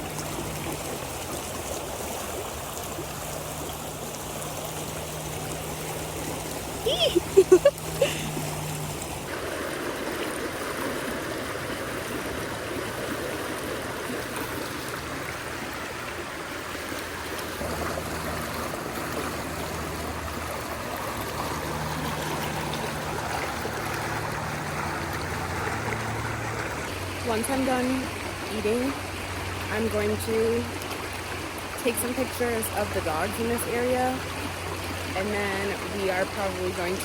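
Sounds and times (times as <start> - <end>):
stream flowing: 0.0 - 37.0.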